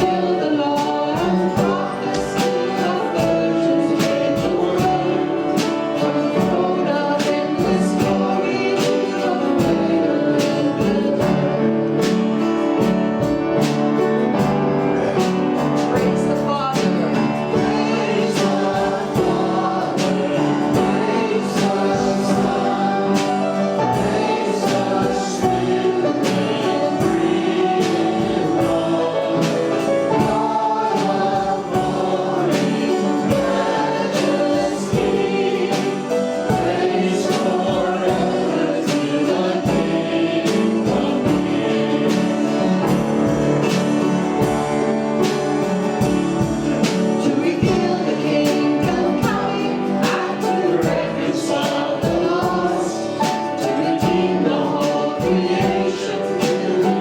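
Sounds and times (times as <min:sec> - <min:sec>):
group singing a hymn: 0:00.0 - 0:57.0
guitar with steady beat: 0:00.0 - 0:57.0.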